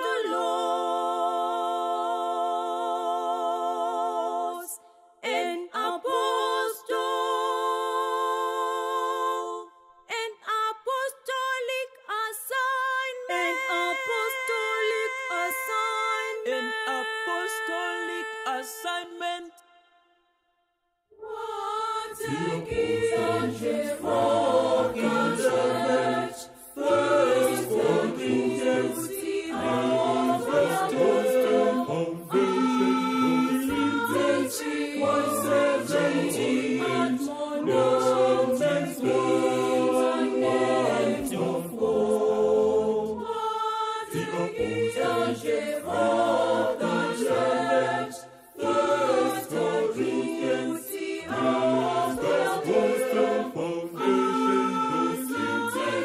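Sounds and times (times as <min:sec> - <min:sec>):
mixed choir singing gospel: 0:00.0 - 0:19.6, 0:21.2 - 0:56.0.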